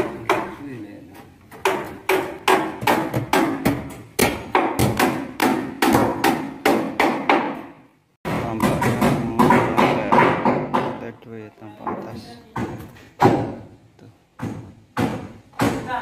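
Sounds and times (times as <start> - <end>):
hammers driving nails into wood: 0.0 - 0.7, 1.5 - 11.1, 11.8 - 16.0.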